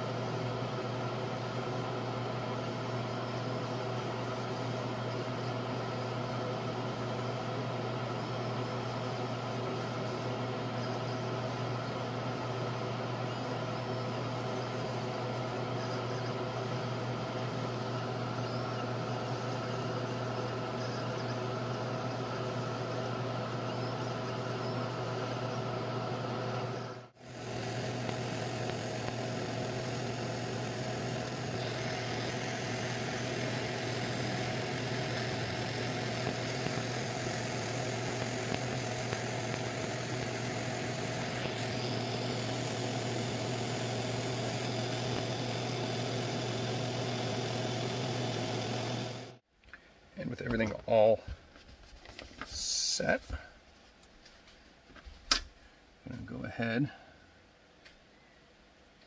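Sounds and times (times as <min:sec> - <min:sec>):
laser engraver humming: 0:00.0 - 0:49.4.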